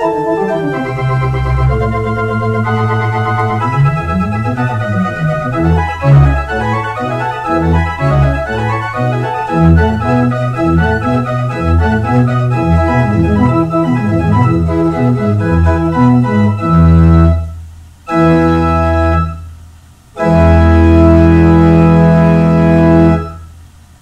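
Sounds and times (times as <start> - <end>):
pipe organ playing: 0.0 - 19.5, 20.2 - 23.5.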